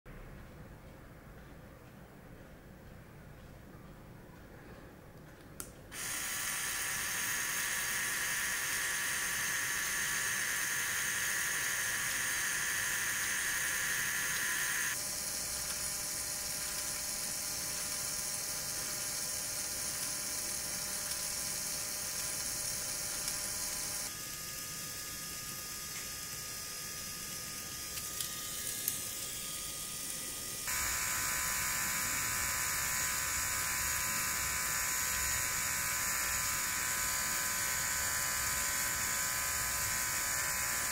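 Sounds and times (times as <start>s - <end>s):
small electric motor whine: 5.9s - 40.9s.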